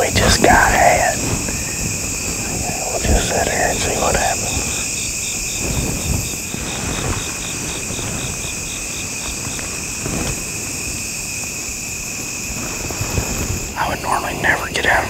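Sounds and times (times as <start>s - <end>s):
insect chirping in pulses: 0.0s - 15.0s
insects trilling: 0.0s - 15.0s.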